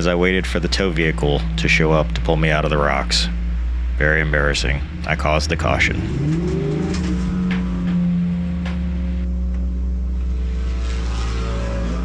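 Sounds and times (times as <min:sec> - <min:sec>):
race car engine idling: 0:00.0 - 0:12.0.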